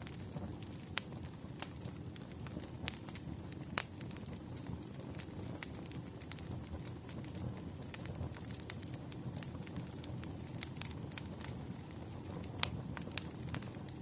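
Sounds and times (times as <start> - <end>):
logs crackling and popping: 0.0 - 14.0
low fire rumble: 0.0 - 14.0.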